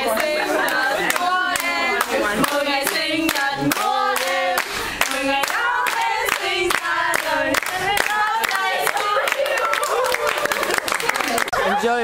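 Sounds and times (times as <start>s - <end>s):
young women singing a chant: 0.0s - 10.1s
hands clapping in rhythm: 0.0s - 11.6s.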